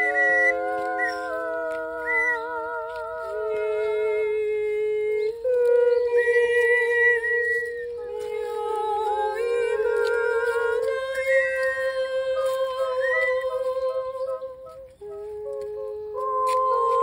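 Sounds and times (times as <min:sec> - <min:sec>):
higher voice singing: 0:00.0 - 0:17.0
women singing wordless held notes: 0:00.0 - 0:17.0.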